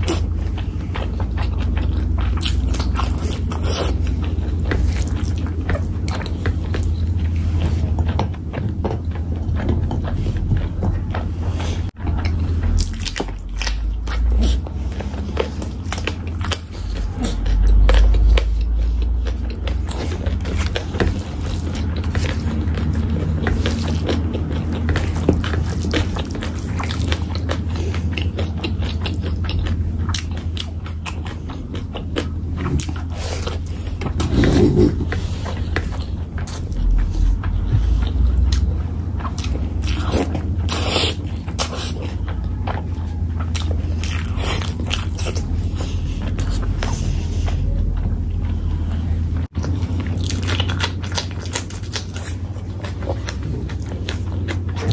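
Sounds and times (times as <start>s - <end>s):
chewing and mouth sounds: 0.0s - 54.9s
low steady hum: 0.0s - 54.9s.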